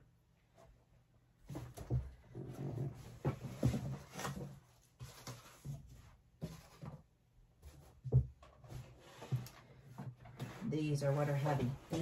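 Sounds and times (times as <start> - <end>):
cardboard rustling and scraping: 1.4 - 12.0.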